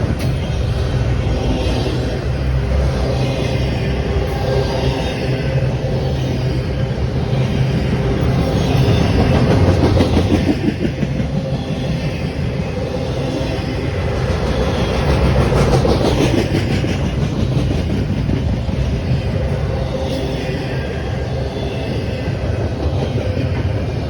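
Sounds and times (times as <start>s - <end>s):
train rumble: 0.0s - 24.0s
train wheels clacking over rails: 0.0s - 24.0s.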